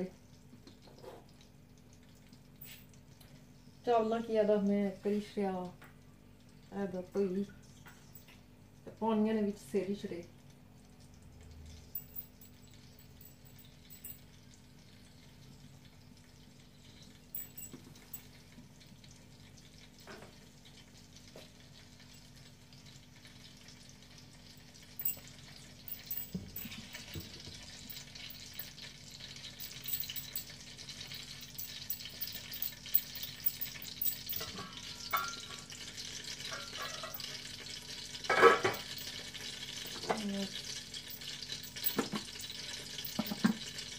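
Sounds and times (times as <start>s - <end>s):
oil sizzling and crackling: 0.0s - 4.0s, 10.1s - 43.9s.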